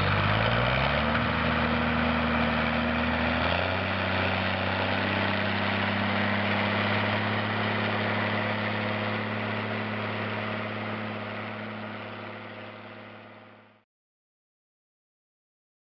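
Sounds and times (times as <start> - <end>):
tractor diesel engine running: 0.0 - 13.8.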